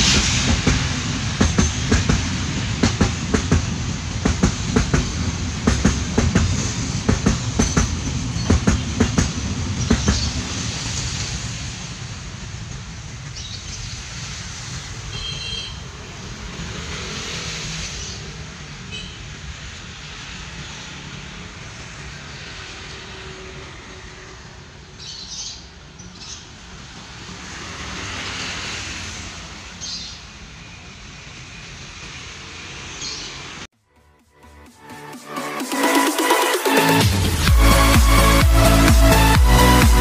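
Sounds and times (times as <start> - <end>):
freight train rumbling: 0.0 - 33.7
passing road traffic: 0.0 - 34.2, 34.9 - 40.0.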